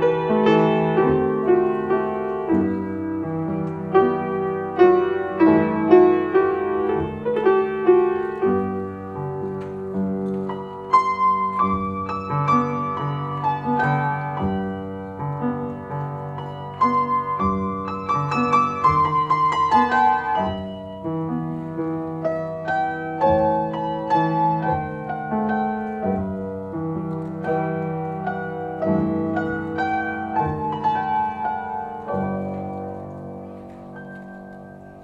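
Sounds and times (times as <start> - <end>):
piano playing: 0.0 - 35.0.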